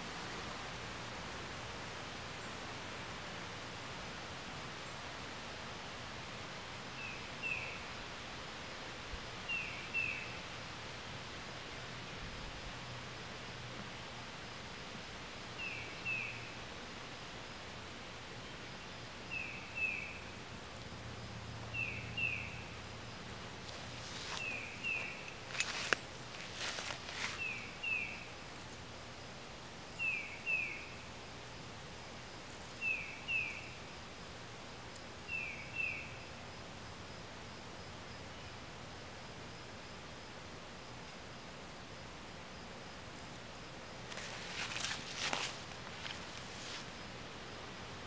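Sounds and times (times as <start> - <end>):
steady outdoor hiss: 0.0 - 48.0.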